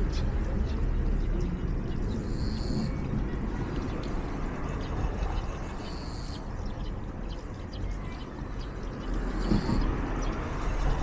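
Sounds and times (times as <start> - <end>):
bird calls: 1.9 - 10.8.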